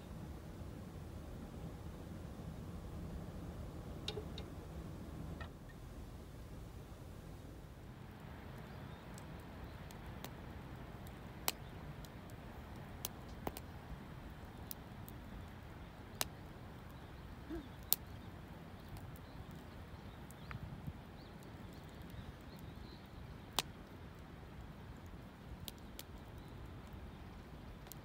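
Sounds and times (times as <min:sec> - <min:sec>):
campfire crackling and popping: 0:03.1 - 0:28.0.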